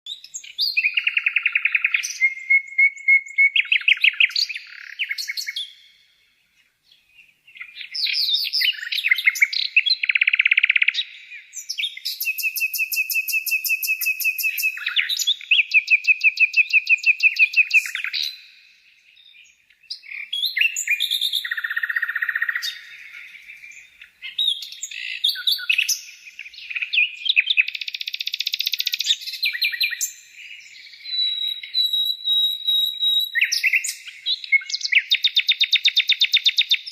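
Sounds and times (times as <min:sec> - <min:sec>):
songbird singing trills: 0:00.1 - 0:36.9.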